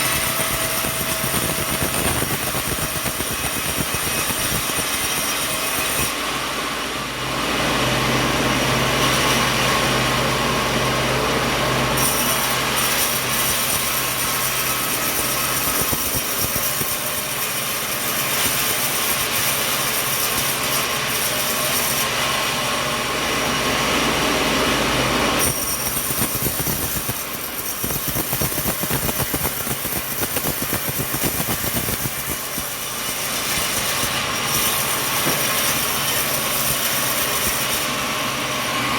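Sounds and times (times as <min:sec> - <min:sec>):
harsh mechanical sawmill noise: 0:00.0 - 0:38.9.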